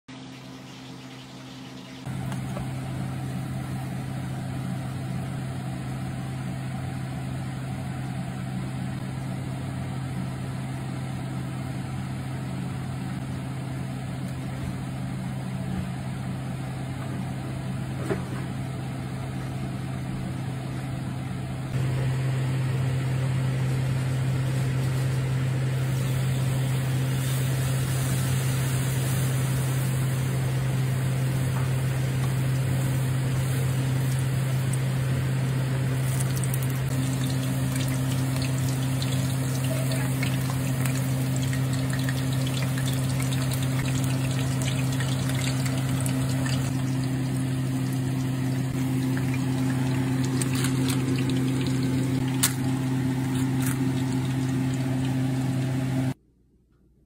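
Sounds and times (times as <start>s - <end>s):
low mechanical hum: 0.1s - 57.0s.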